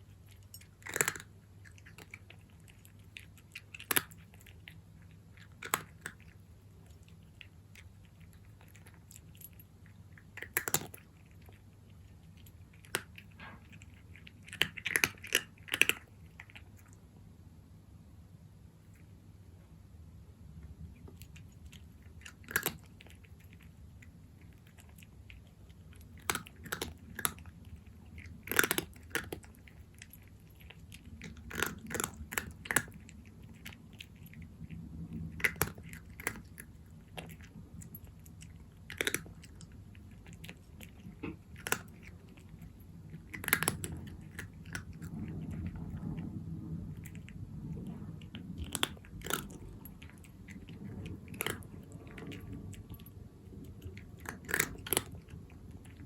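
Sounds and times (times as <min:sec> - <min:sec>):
cat crunching dry kibble: 0:00.0 - 0:17.2, 0:20.6 - 0:56.0.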